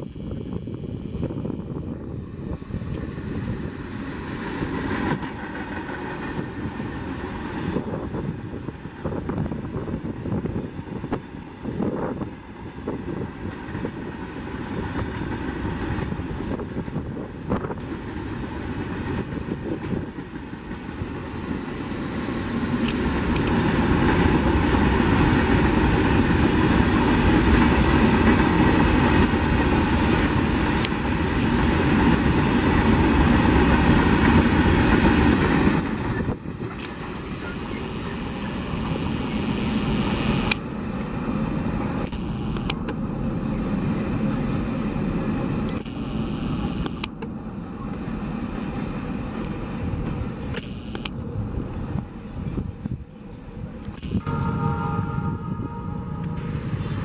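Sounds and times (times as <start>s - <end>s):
freight train wheels rumbling: 1.2s - 57.0s.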